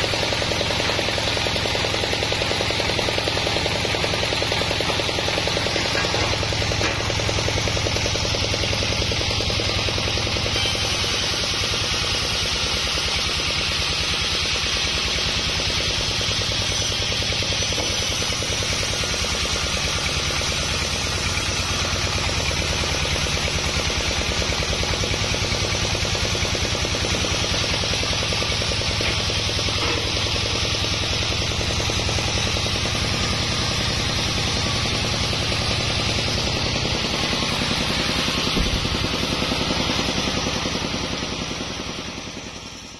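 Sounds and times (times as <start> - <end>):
band saw drone: 0.0 - 42.8
hiss of wood cutting: 0.0 - 42.9.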